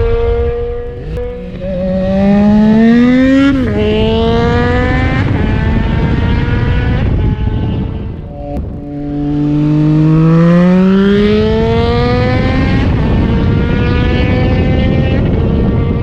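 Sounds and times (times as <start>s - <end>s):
motorcycle engine accelerating: 0.0s - 16.0s
wind rushing: 0.0s - 16.0s.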